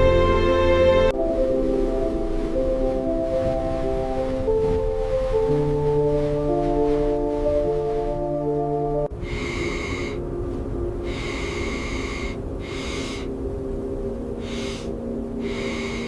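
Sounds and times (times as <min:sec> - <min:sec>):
low steady rumble: 0:00.0 - 0:16.0
music: 0:00.0 - 0:16.0.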